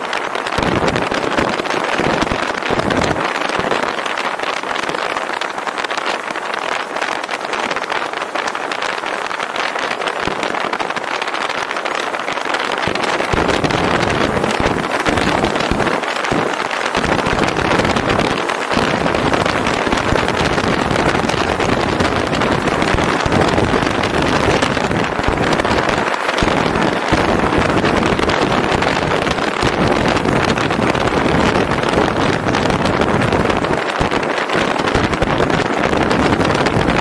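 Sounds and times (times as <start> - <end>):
gusty microphone buffeting: 0.0 - 37.0
wind rushing over microphone: 0.0 - 37.0.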